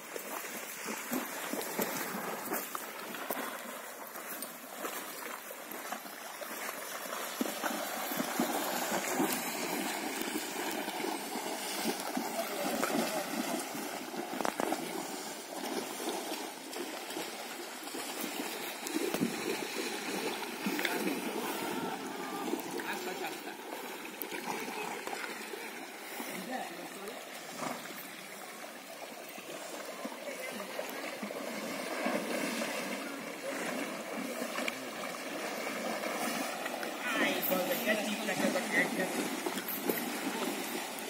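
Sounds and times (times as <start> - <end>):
horses splashing through river: 0.0 - 41.0.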